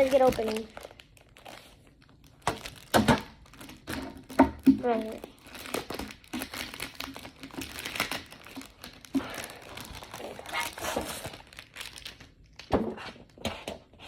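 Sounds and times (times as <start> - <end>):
packaging crinkling and tearing: 0.0 - 13.4.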